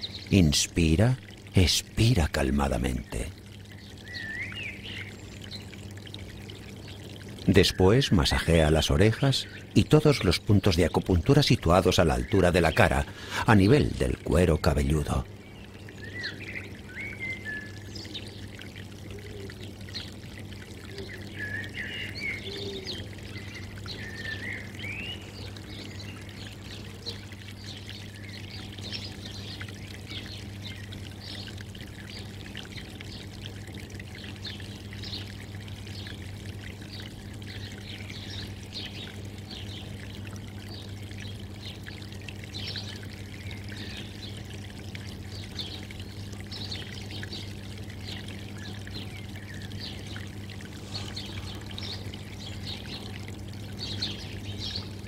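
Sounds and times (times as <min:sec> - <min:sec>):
birds chirping: 0:00.0 - 0:55.0
low steady hum: 0:00.0 - 0:55.0
water trickling: 0:00.0 - 0:55.0.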